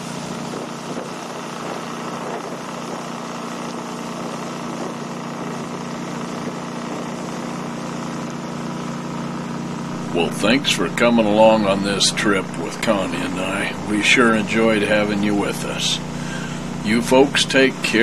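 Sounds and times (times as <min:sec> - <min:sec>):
boat motor running: 0:00.0 - 0:18.0
hiss of wind and water: 0:00.0 - 0:18.0.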